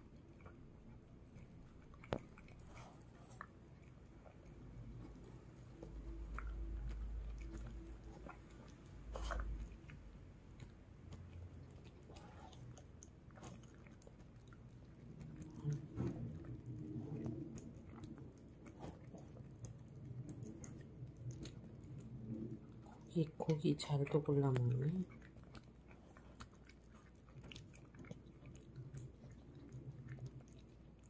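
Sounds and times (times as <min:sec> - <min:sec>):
dog chewing and smacking: 0:00.0 - 0:31.0.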